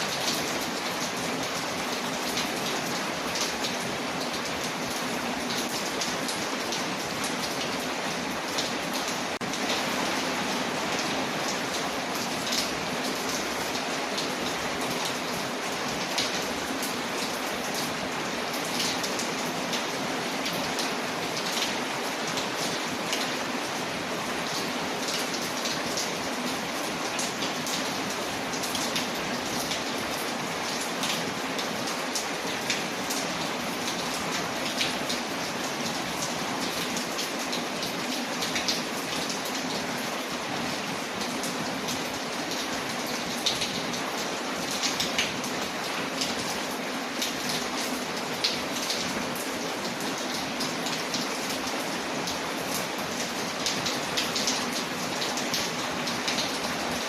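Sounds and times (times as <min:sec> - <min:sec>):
rain hissing on a window: 0:00.0 - 0:57.0.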